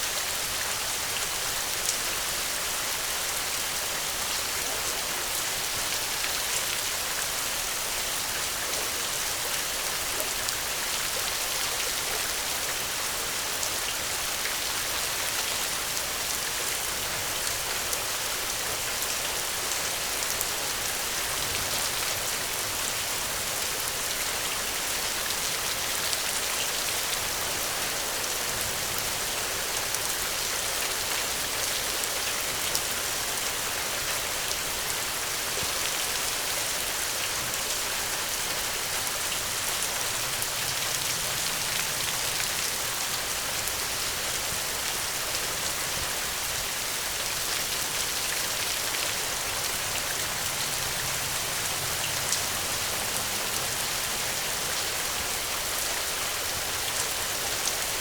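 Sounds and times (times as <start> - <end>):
rain hissing on surfaces: 0.0 - 58.0.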